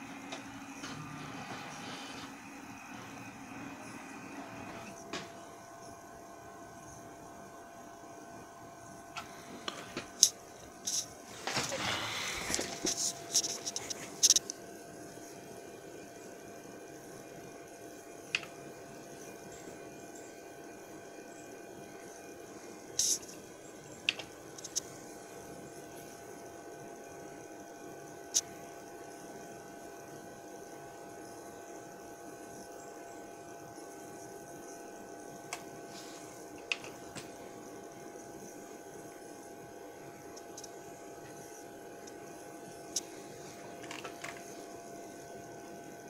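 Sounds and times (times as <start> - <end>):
copier humming: 0.0 - 46.0.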